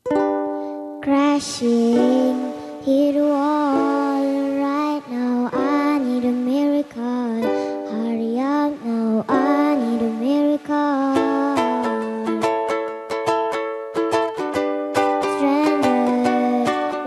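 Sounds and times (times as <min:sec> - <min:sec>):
girl singing: 0:00.0 - 0:13.1, 0:15.0 - 0:17.0
ukulele strumming: 0:00.0 - 0:17.0.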